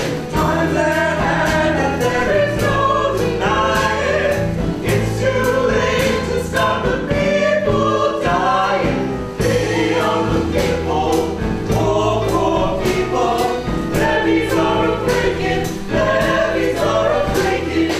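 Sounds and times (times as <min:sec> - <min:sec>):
band accompaniment: 0:00.0 - 0:17.9
choir singing gospel-style: 0:00.0 - 0:17.9
percussion hits: 0:00.0 - 0:17.9.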